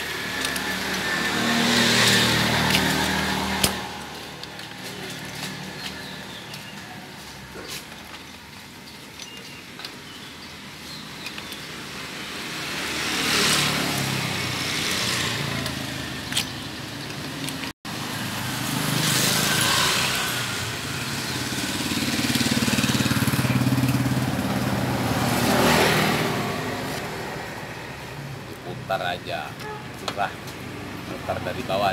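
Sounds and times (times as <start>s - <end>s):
motor vehicles passing: 0.0s - 31.9s.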